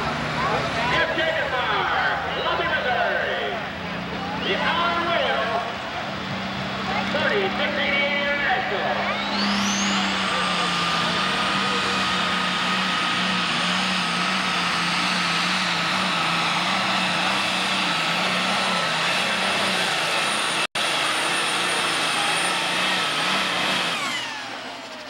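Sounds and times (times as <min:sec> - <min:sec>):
tractor engine at full load: 0:00.0 - 0:25.0.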